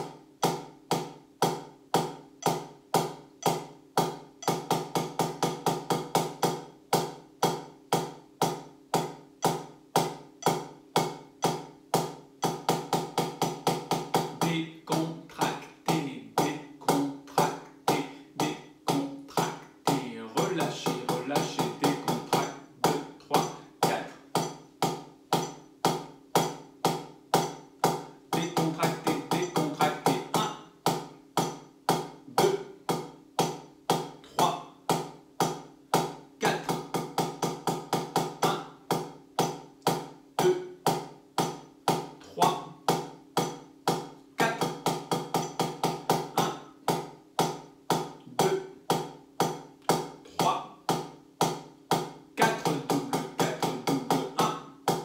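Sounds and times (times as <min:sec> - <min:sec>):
drumsticks playing strokes: 0:00.0 - 0:55.0.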